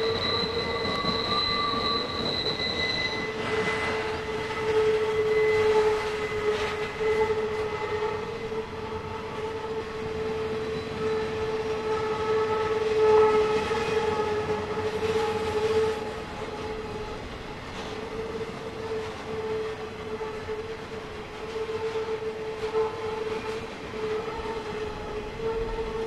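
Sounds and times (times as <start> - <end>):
freight train rumble: 0.0 - 26.0
train wheels squealing: 0.0 - 26.0.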